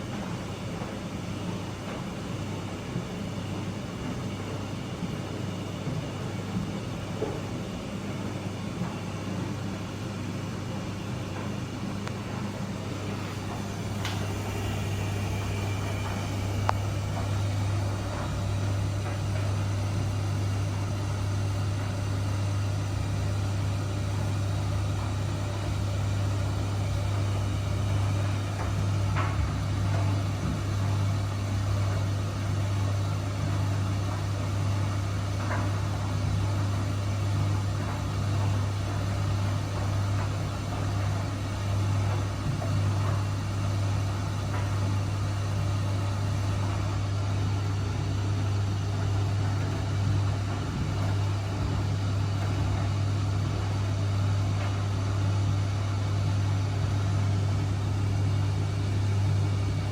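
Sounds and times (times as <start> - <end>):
washing machine humming: 0.0 - 59.9.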